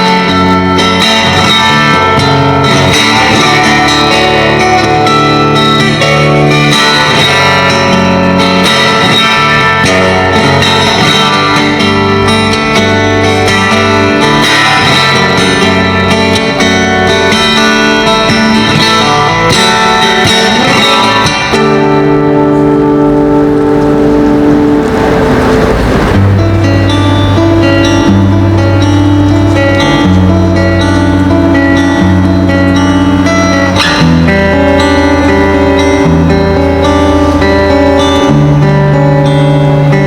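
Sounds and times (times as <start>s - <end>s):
fingerstyle guitar playing: 0.0s - 40.0s.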